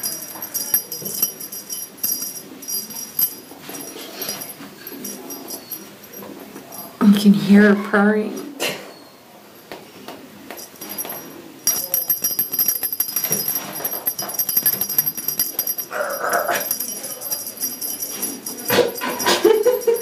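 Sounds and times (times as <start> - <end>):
cat toy jingling rattle: 0.0 - 7.2, 10.5 - 20.0.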